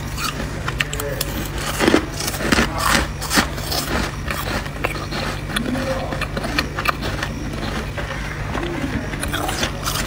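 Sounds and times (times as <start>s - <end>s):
frost crunching: 0.0s - 10.0s.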